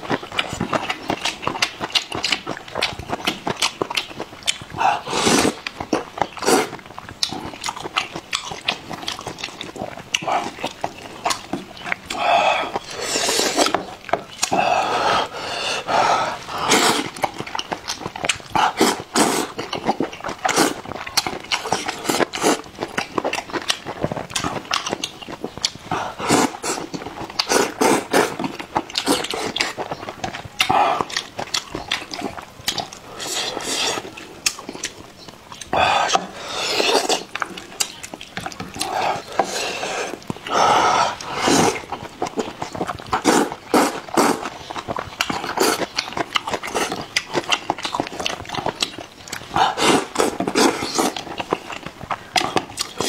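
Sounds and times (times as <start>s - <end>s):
noodles slurping: 0.0s - 53.0s
wet chewing: 0.0s - 53.0s.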